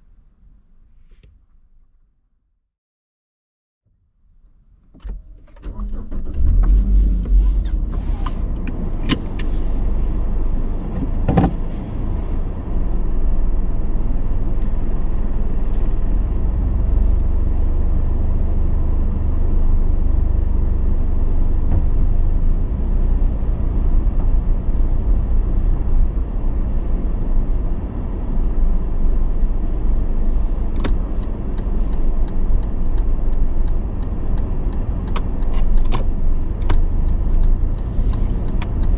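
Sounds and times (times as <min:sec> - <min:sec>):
engine and road rumble: 0:03.9 - 0:38.9.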